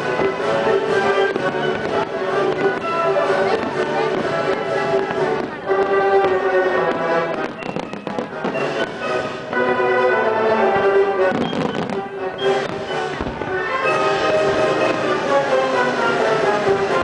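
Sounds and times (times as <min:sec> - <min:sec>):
fireworks bangs: 0:00.0 - 0:17.0
orchestral music with strings: 0:00.0 - 0:17.0.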